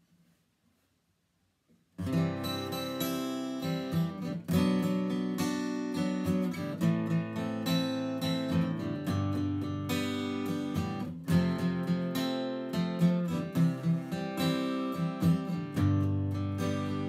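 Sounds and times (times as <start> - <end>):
acoustic guitar strumming: 2.0 - 17.0.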